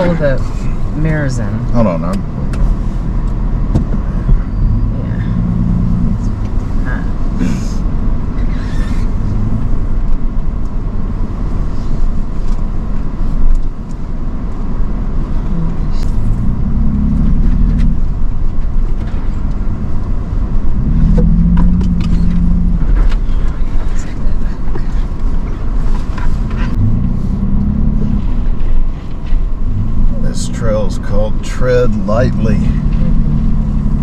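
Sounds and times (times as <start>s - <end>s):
vehicle engine pulling: 0.0s - 34.0s
suspension clicks and knocks: 2.0s - 34.0s.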